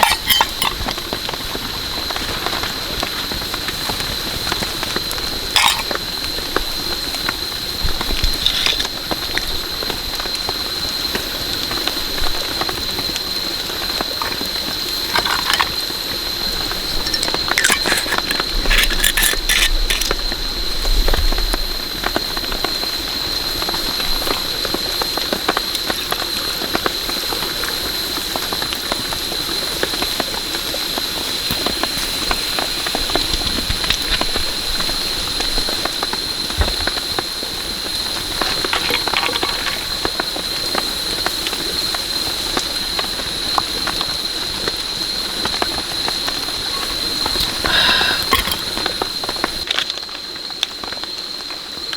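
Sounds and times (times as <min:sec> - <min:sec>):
small crackles: 0:00.0 - 0:51.9
rain patter: 0:00.7 - 0:18.8, 0:19.7 - 0:51.9.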